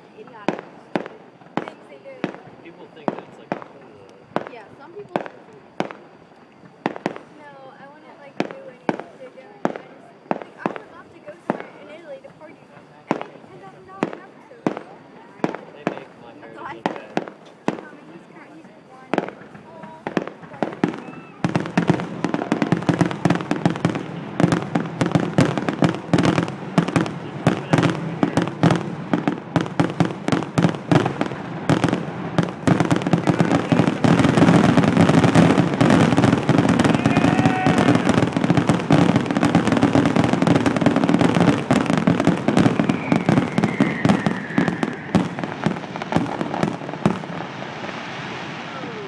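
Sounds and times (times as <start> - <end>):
firework whistles: 0.0 - 49.0
fireworks bangs and crackles: 0.0 - 49.0.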